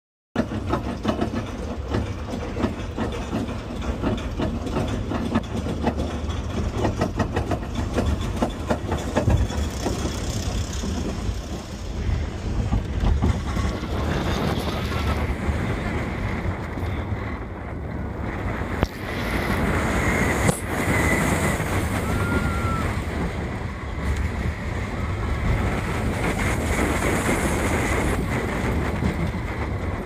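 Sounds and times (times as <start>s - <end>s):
coaster wheels rushing on track: 0.4s - 30.0s
roller coaster lift chain clacking: 0.4s - 30.0s.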